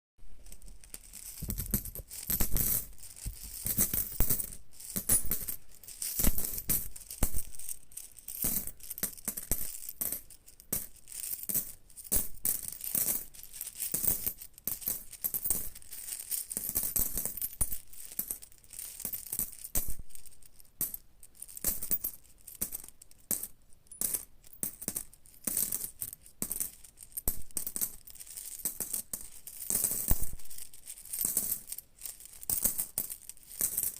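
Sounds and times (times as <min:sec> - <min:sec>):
metal coins clinking: 0:00.4 - 0:33.9.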